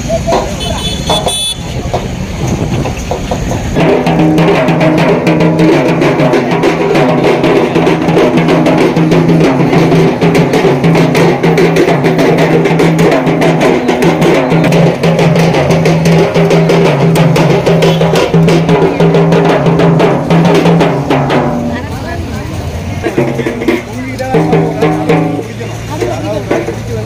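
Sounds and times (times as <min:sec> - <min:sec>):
fast loud drumming: 0:00.0 - 0:27.0.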